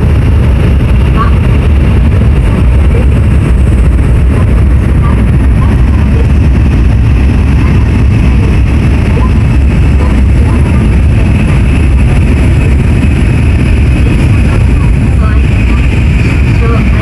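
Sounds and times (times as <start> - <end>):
train rumbling at speed: 0.0 - 17.0
faint voices: 1.1 - 3.4, 4.2 - 17.0.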